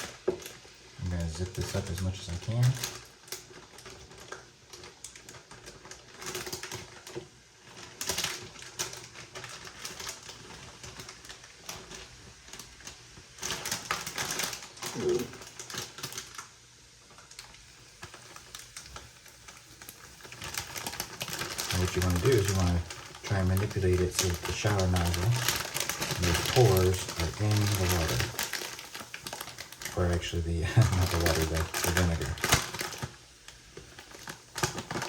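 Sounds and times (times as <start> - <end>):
plastic bag crinkling and clicking: 0.0 - 35.0
plastic bag rustling: 0.0 - 35.0.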